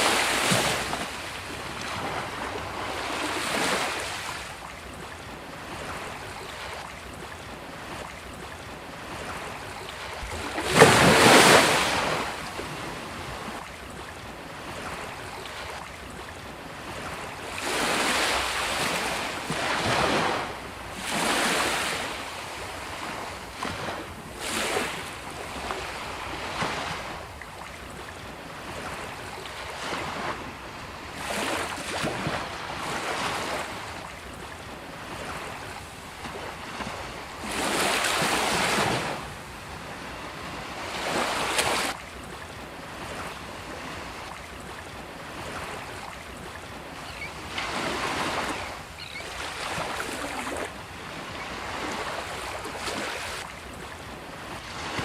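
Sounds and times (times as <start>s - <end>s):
sea waves breaking on a beach: 0.0s - 55.0s.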